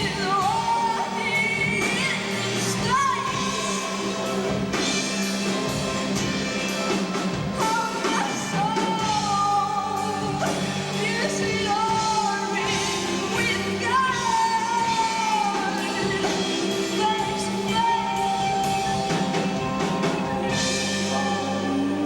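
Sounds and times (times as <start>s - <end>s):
live band music: 0.0s - 22.0s.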